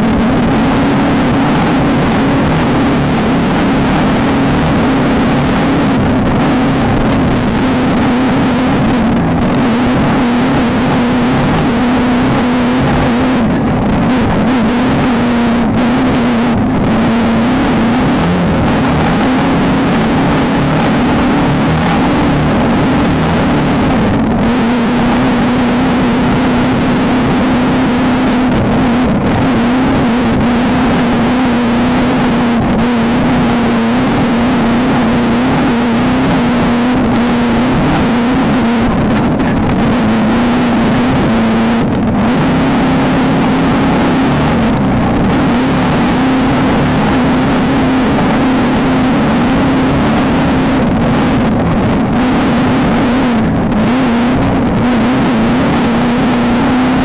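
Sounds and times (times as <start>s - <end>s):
loud rushing noise: 0.0s - 57.0s
race car engine running hard: 0.0s - 57.0s.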